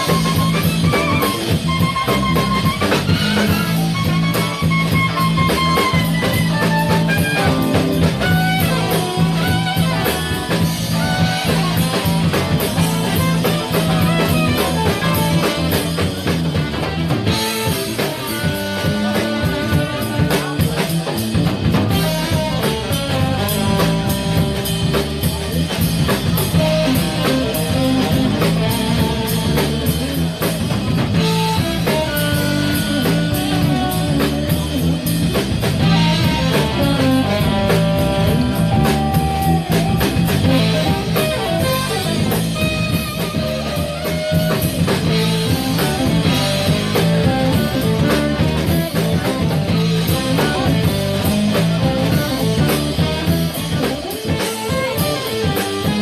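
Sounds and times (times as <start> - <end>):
bass guitar: 0.0 - 56.0
drum kit: 0.0 - 56.0
electric guitar: 0.0 - 56.0
saxophone melody: 0.0 - 56.0.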